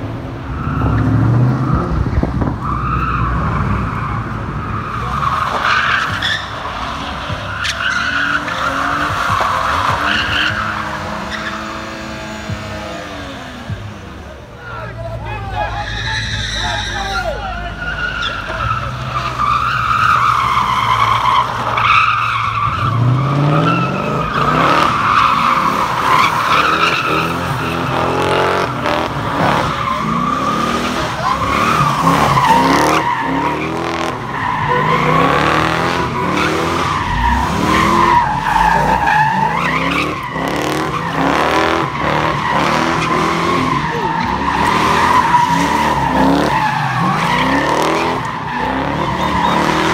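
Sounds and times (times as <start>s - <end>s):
car engine revving: 0.0s - 49.9s
high tyre squeal: 0.4s - 49.9s.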